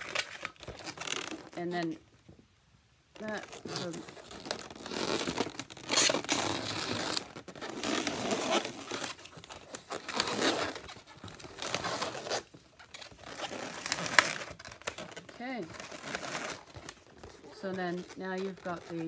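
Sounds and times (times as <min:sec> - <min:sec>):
balloons rubbing and squeaking: 0:00.0 - 0:02.1, 0:03.1 - 0:19.0.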